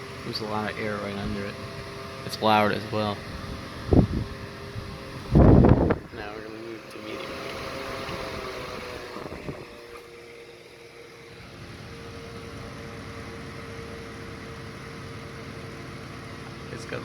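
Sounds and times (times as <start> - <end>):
small fan blowing air: 0.0 - 17.0.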